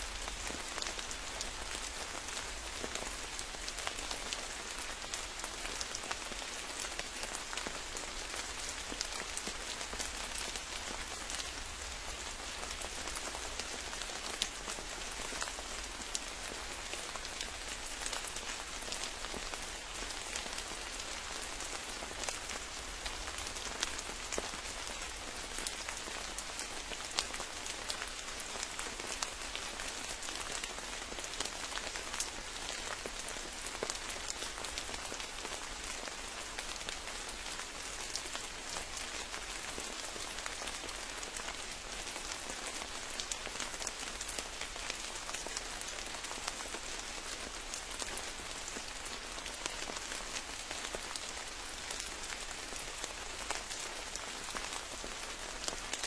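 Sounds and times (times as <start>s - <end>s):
rain hissing in forest: 0.0s - 56.0s.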